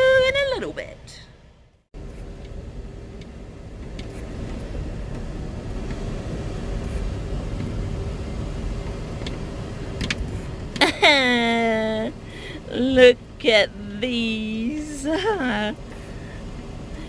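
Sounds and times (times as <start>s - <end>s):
faint steady hum: 0.0s - 17.0s
road and engine rumble: 0.0s - 17.0s.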